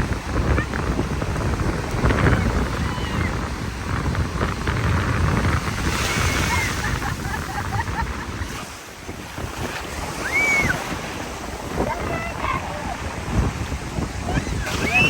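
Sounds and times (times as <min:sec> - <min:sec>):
ocean surf washing in: 0:00.0 - 0:15.0
wind buffeting microphone: 0:00.0 - 0:15.0.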